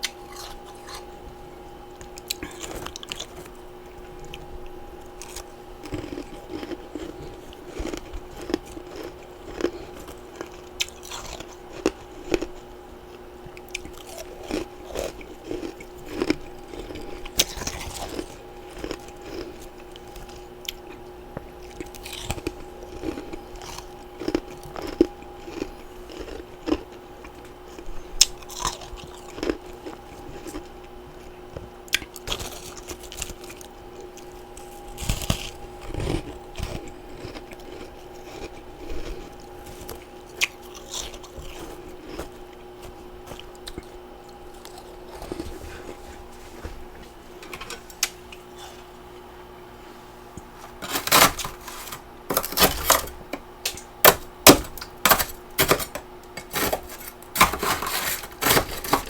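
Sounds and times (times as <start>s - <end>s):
chewing ice chunks: 0.0s - 1.3s, 2.0s - 46.0s, 50.8s - 59.0s
faint steady hum: 0.0s - 59.0s.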